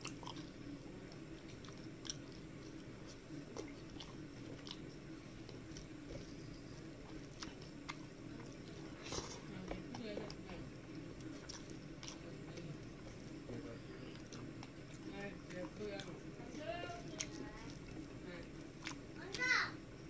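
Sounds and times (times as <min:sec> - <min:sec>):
wet chewing: 0:00.0 - 0:19.5.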